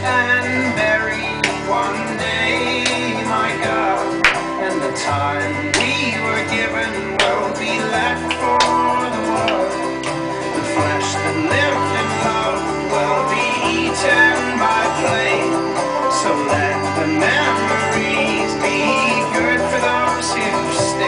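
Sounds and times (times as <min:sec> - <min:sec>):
folk-rock music with banjo and guitar: 0:00.0 - 0:21.0.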